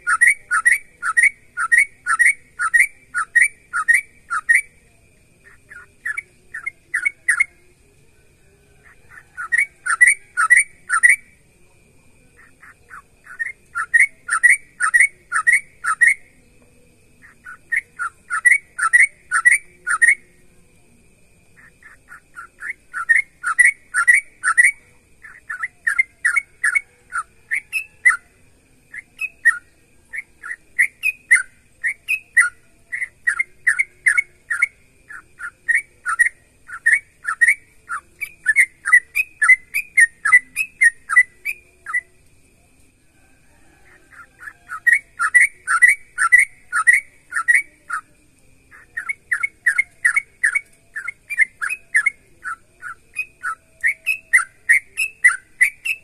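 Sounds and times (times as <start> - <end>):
bulbul chirping song: 0.0 - 56.0.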